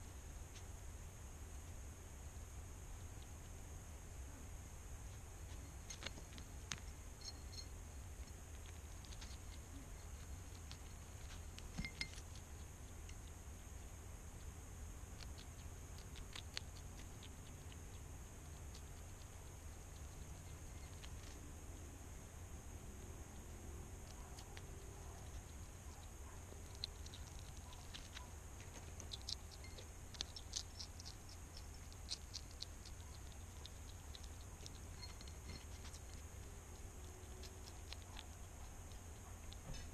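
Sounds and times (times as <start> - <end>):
steady low hum: 0.0 - 39.9
hedgehog chewing crunches: 5.0 - 7.2, 7.9 - 39.9.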